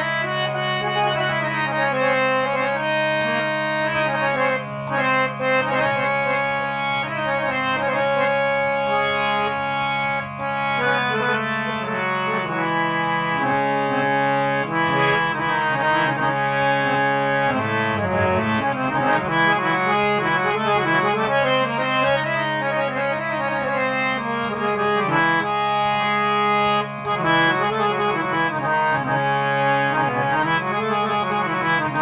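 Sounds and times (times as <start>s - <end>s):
harmonium melody: 0.0s - 32.0s.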